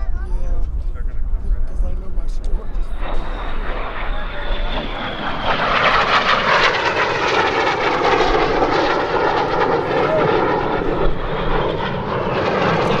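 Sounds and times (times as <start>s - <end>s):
jet flying past: 0.5s - 13.0s.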